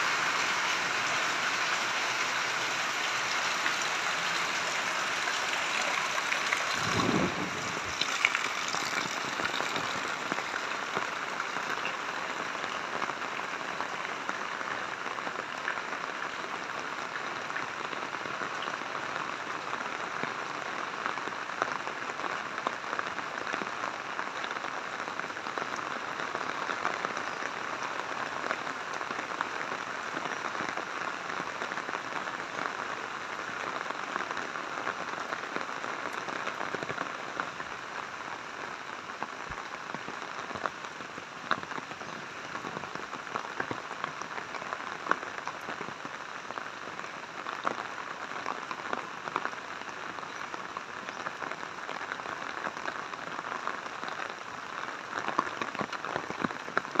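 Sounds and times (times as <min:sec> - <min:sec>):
rain falling: 0:00.0 - 0:57.0
sharp rain ticks: 0:00.0 - 0:57.0.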